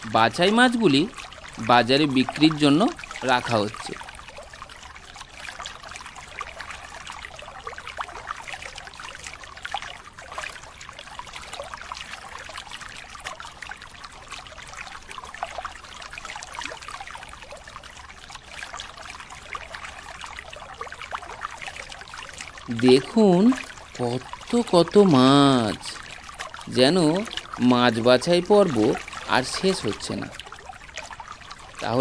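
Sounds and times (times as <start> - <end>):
fish splashing in water: 0.0 - 32.0.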